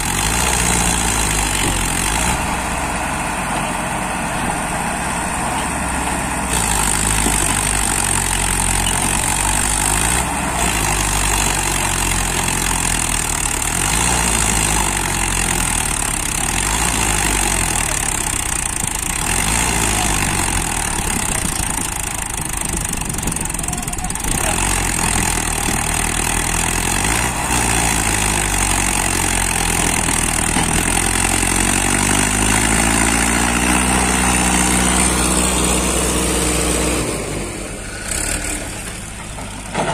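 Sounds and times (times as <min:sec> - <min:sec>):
diesel engines under load: 0:00.0 - 0:39.9.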